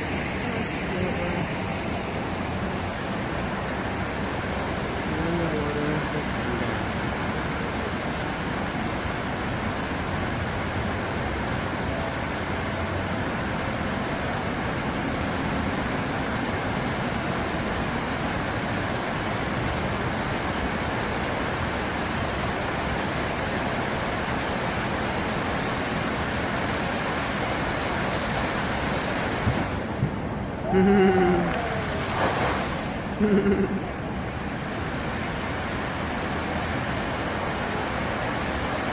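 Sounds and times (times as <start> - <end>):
fountain jets splashing into basin: 0.0 - 38.9.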